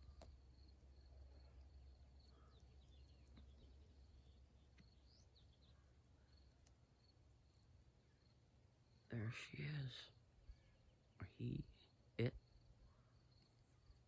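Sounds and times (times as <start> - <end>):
soft high bird chirps: 0.0 - 14.0.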